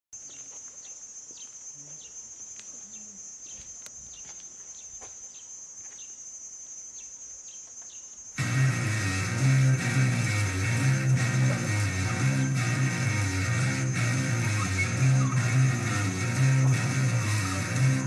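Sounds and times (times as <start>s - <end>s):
high-pitched insect drone: 0.2s - 18.0s
short insect chirps: 0.2s - 18.0s.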